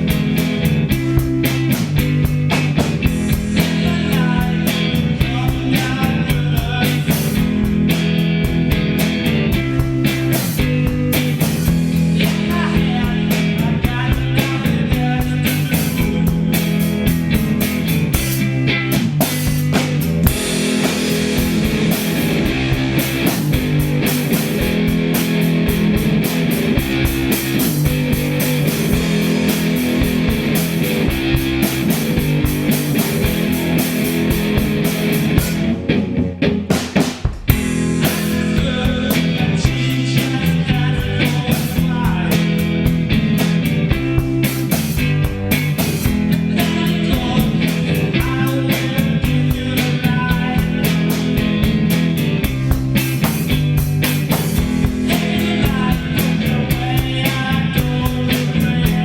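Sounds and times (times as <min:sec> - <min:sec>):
drums and cymbals: 0:00.0 - 0:59.0
rock guitar: 0:00.0 - 0:59.0.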